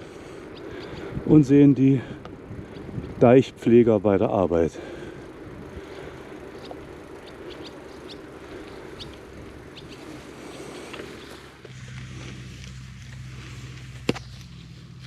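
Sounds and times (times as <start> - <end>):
small birds chirping: 0.0 - 12.4
steady low hum: 0.0 - 15.0
steady outdoor noise: 0.0 - 15.0.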